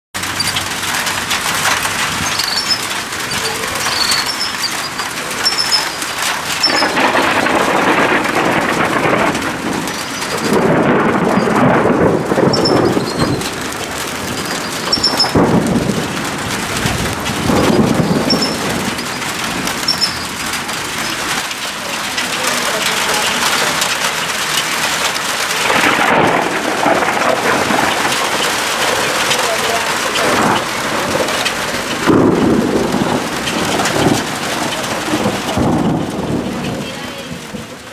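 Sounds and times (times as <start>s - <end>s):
heavy rain: 0.2s - 37.9s
thunder rumbling: 0.2s - 37.9s.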